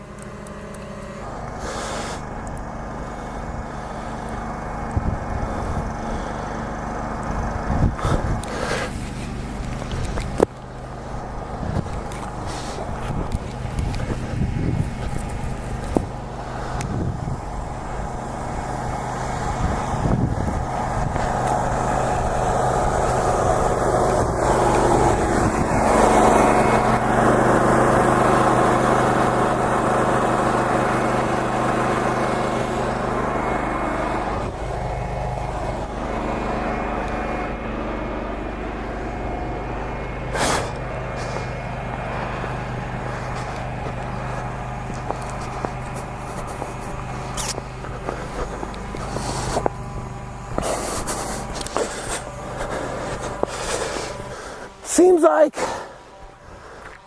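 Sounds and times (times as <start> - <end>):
motor humming: 0.0 - 57.0.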